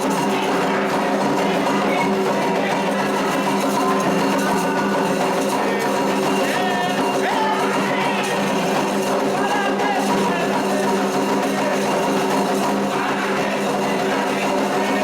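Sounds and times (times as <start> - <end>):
ceremonial music with percussion: 0.0 - 15.0.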